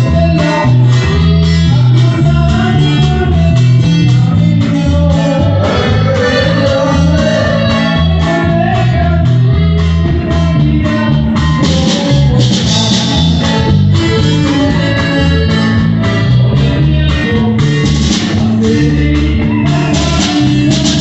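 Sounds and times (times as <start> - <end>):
bass: 0.0 - 21.0
drums: 0.0 - 21.0
plucked guitars: 0.0 - 21.0.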